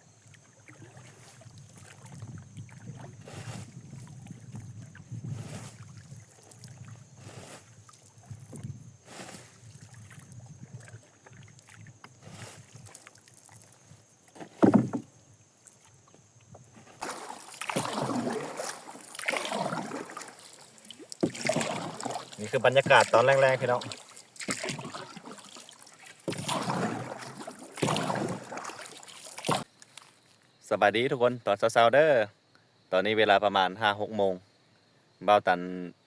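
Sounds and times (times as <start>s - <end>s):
paddle splashing in water: 0.2s - 30.3s.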